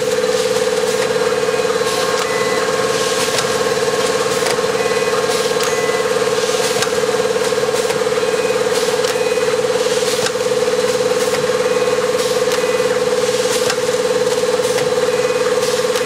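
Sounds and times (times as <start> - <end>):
mechanical clacks: 0.0 - 16.0
packing machine humming: 0.0 - 16.0.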